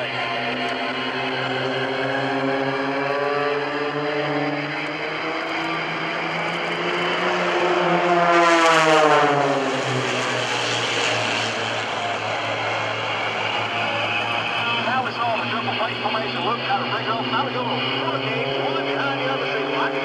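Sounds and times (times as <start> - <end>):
propeller planes flying past: 0.0 - 20.0.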